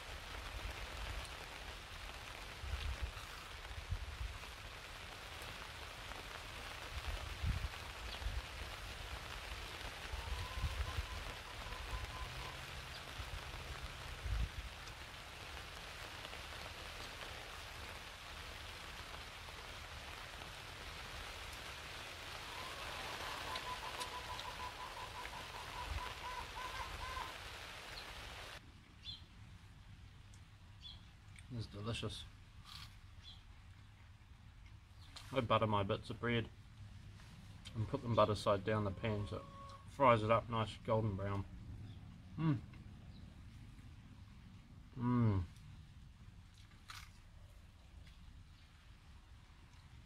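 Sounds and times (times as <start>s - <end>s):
rain on a tarp: 0.0s - 38.8s, 39.5s - 50.0s.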